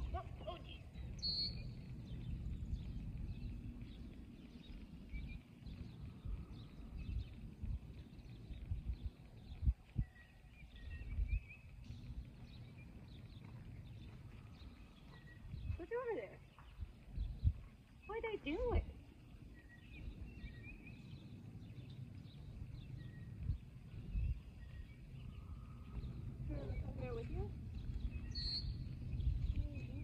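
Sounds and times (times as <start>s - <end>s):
small birds chirping: 0.0s - 30.0s
wind rumbling on microphone: 0.0s - 30.0s.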